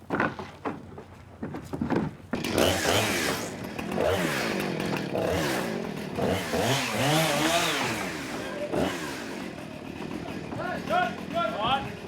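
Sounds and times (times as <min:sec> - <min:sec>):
chainsaw revving: 0:02.3 - 0:12.0.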